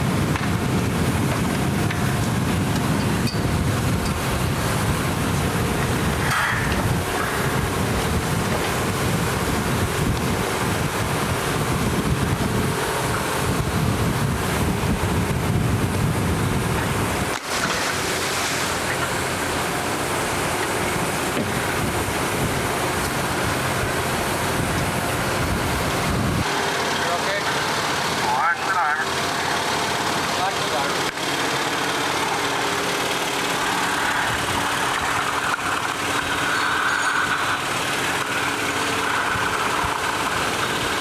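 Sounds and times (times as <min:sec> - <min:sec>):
wind buffeting microphone: 0:00.0 - 0:26.7, 0:31.0 - 0:41.0
rushing sea water: 0:00.0 - 0:41.0.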